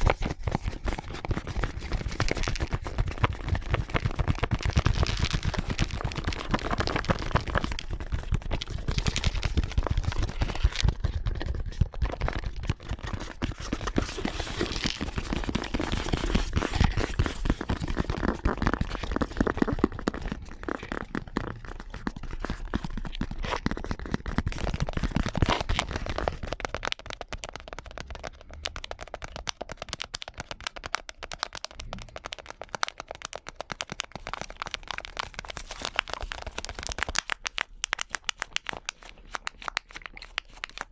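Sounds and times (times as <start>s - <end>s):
rapid tapping on objects: 0.0s - 40.9s.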